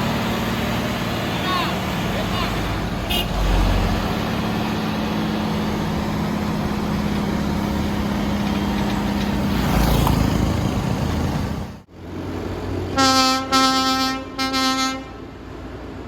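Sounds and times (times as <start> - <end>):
truck diesel engine droning: 0.0 - 15.8.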